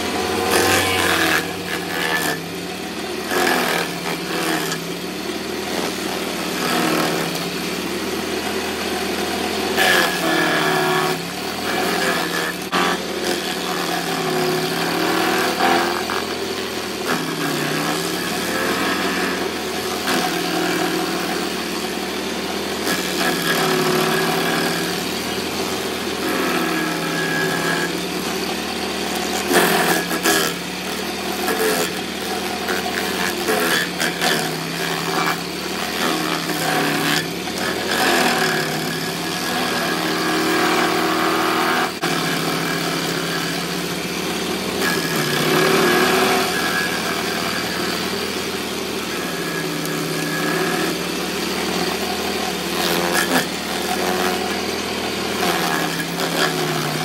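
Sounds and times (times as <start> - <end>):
stump grinder engine under load: 0.0 - 57.0
wood chipping noise: 0.0 - 57.0.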